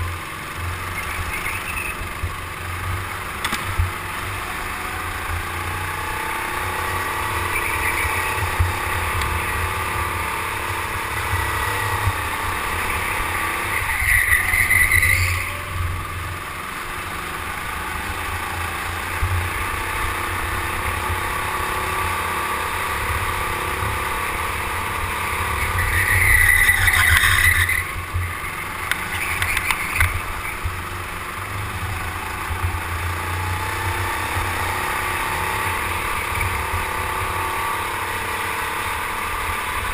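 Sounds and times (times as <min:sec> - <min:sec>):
go-kart engine drone: 0:00.0 - 0:39.9
high-pitched engine whine: 0:00.0 - 0:39.9.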